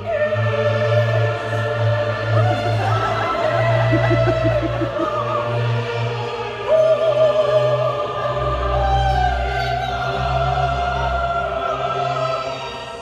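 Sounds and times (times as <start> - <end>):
orchestral accompaniment: 0.0 - 10.6
operatic singing with vibrato: 0.0 - 13.0.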